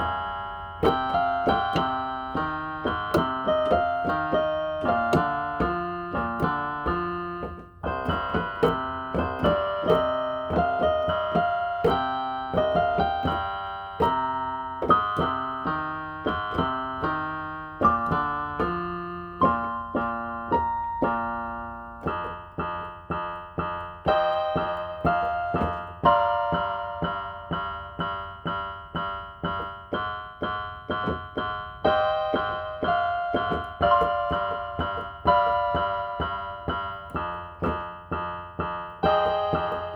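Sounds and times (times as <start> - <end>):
electronic keyboard piano melody: 0.0 - 39.9.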